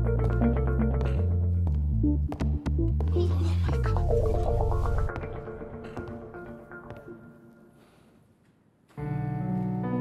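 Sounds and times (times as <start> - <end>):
background music: 0.0 - 7.9, 8.9 - 10.0.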